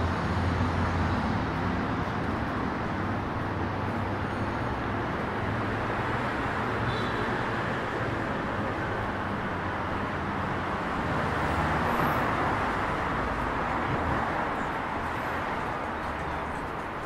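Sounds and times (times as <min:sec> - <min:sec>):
passing cars hiss and rumble: 0:00.0 - 0:17.0.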